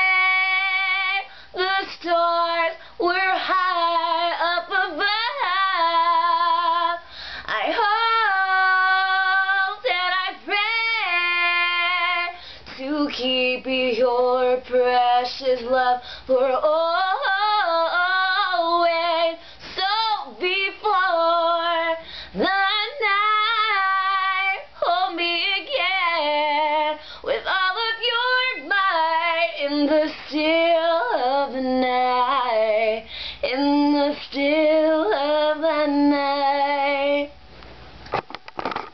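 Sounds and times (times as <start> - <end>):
woman singing a cappella: 0.0 - 37.5.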